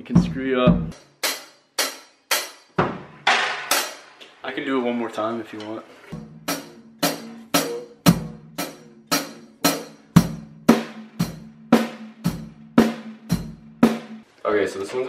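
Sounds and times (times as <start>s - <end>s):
drum kit playing rock beat: 0.0s - 4.2s, 6.2s - 14.3s.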